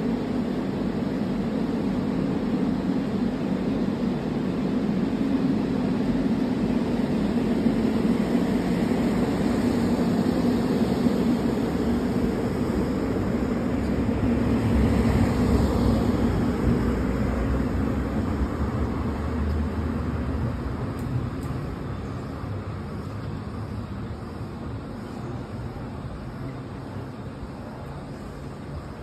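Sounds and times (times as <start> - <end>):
funicular car rumbling on rails: 0.0 - 29.0.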